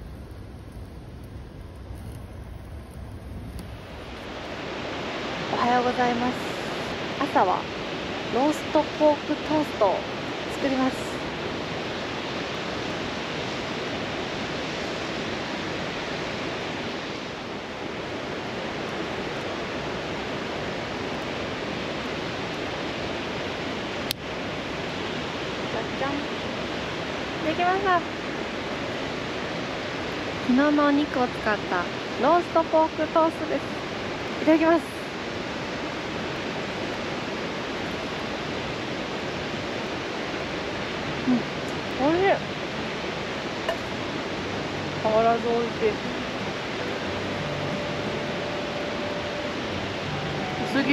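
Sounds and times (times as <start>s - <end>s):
river water pouring over weir: 0.0s - 50.9s.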